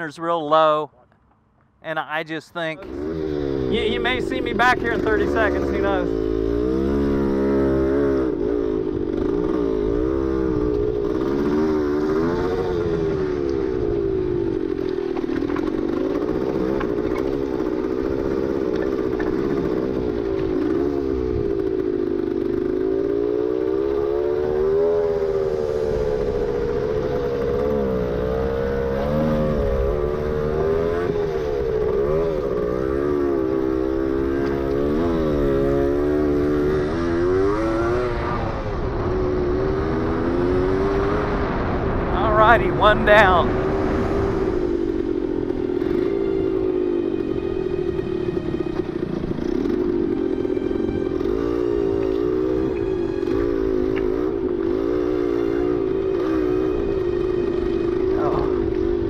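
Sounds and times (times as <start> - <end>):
motorcycle two-stroke engine revving: 2.8 - 59.0.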